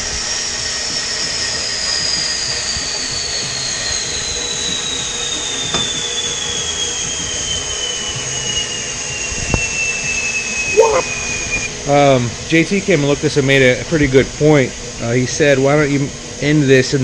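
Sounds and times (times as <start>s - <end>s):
shop machine hissing and whining: 0.0s - 17.0s.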